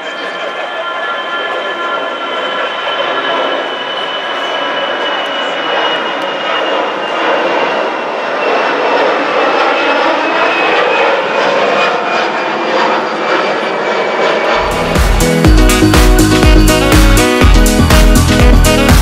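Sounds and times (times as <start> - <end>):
jet airliner roar with whine: 0.0 - 19.0.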